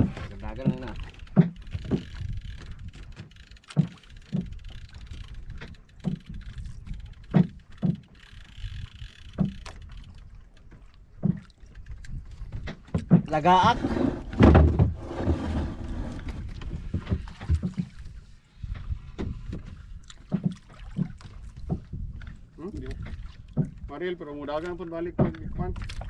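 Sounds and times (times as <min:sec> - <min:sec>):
wind rumble on microphone: 0:00.0 - 0:03.4, 0:04.1 - 0:26.0
water slapping wooden hull: 0:00.0 - 0:26.0.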